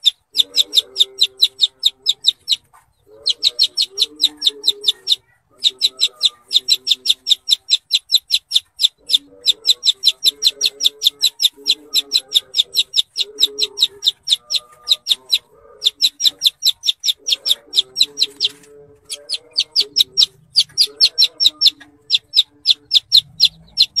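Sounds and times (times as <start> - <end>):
low clucking: 0.0 - 24.0.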